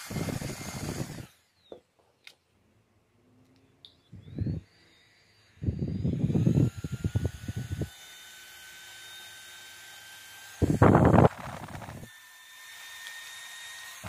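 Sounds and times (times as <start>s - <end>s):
handheld fan motor whine: 0.0s - 1.6s, 4.1s - 14.0s.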